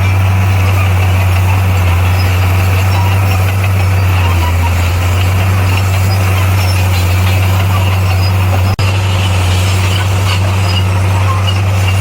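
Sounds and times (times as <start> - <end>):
bulldozer diesel engine droning: 0.0 - 12.0.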